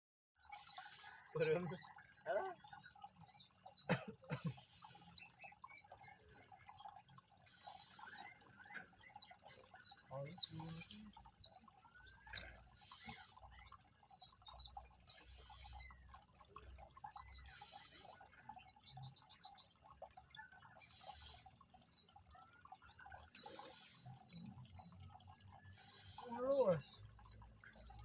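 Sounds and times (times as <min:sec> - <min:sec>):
birds high thin chirps: 0:00.4 - 0:28.0.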